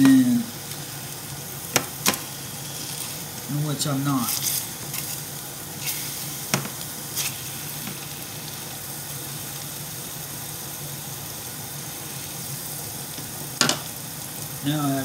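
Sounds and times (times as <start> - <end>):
patties sizzling in a frying pan: 0.0 - 15.0.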